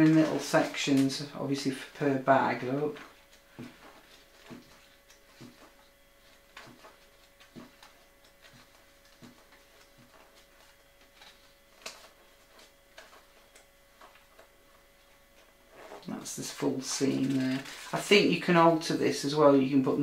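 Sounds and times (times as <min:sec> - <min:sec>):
pages turning: 0:00.0 - 0:18.5.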